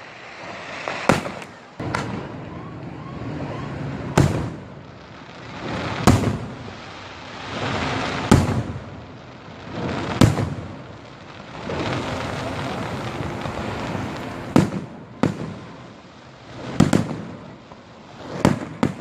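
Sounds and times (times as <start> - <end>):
fireworks bursting with loud bangs: 0.0 - 19.0.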